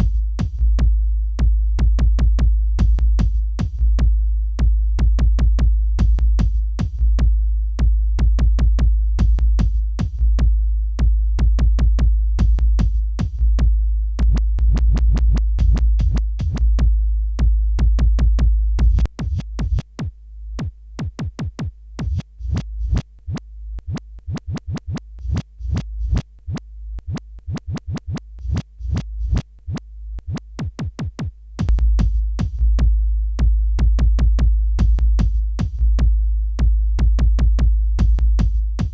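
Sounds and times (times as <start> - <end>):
drum machine pattern: 0.0 - 38.9.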